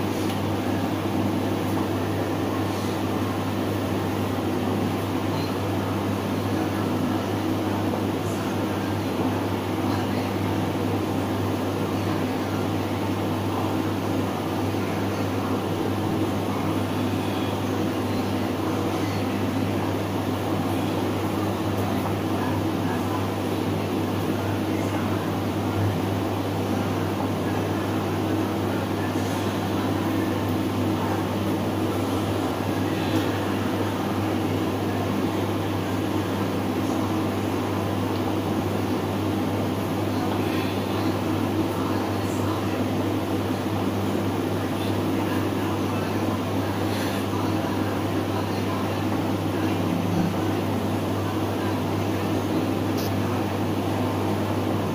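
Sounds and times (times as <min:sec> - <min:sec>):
steady mechanical hum: 0:00.0 - 0:54.9.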